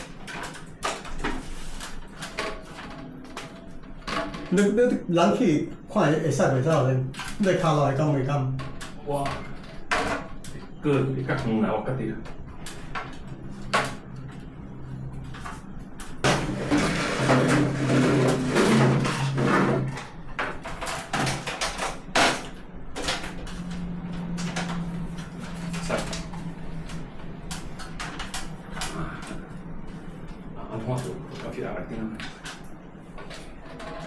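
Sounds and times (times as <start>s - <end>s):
knocks clicks and scraping: 0.0s - 5.1s, 5.8s - 34.0s.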